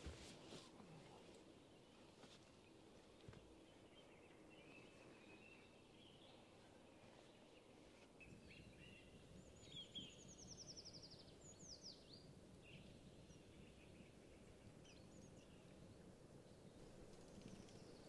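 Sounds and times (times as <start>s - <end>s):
faint birdsong: 0.0s - 18.0s
low steady hiss: 0.0s - 18.0s.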